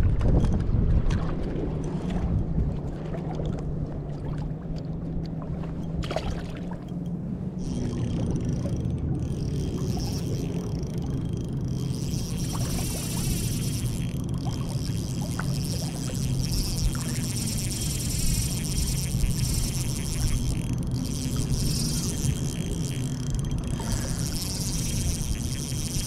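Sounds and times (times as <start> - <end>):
water lapping and splashing: 0.0 - 26.0
boat motor humming: 0.6 - 26.0.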